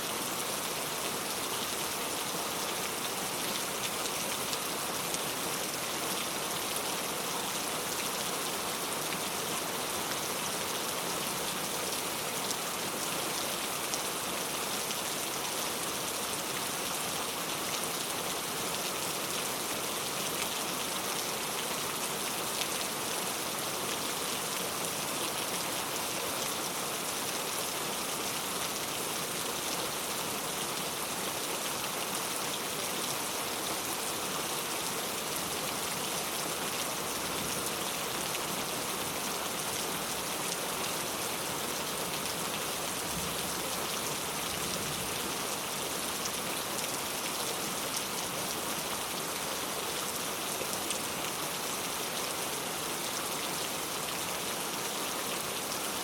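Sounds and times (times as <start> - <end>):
heavy rain falling: 0.2 - 56.0.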